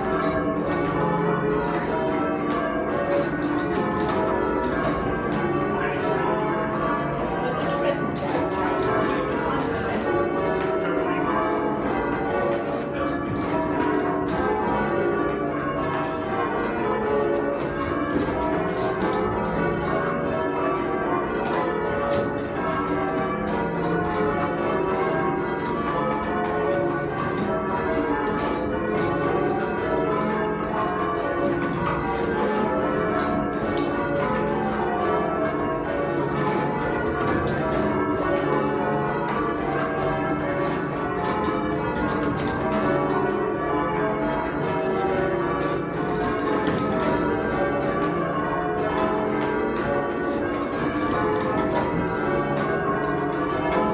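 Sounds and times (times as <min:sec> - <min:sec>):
church bells change ringing: 0:00.0 - 0:53.9.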